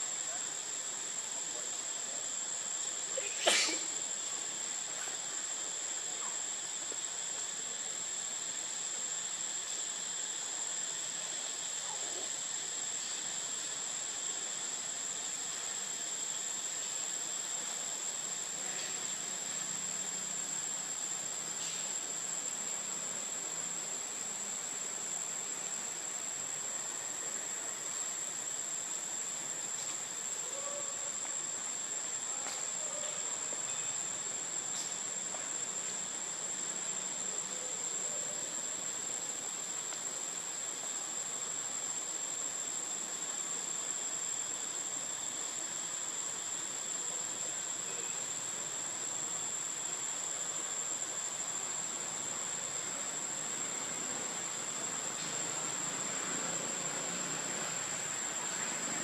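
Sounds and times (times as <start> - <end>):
faint hiss: 0.0 - 59.0
high-pitched insect drone: 0.0 - 59.0.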